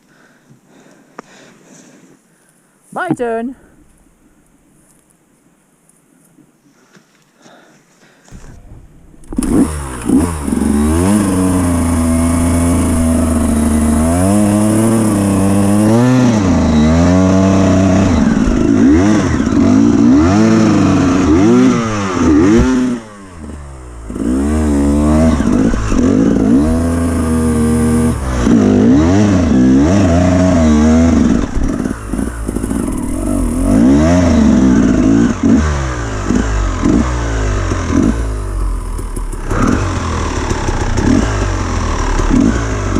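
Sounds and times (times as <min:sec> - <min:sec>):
dirt bike engine revving: 0:08.3 - 0:42.9.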